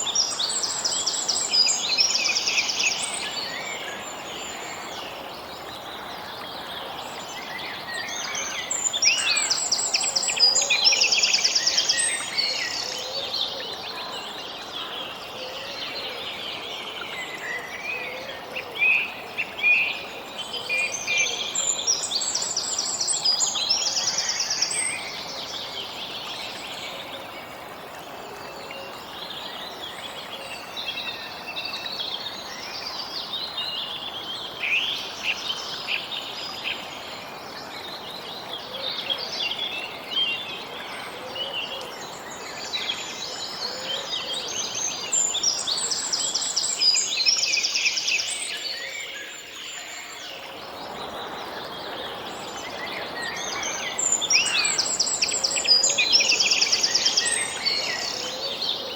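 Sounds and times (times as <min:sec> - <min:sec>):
steady background hiss: 0:00.0 - 0:58.9.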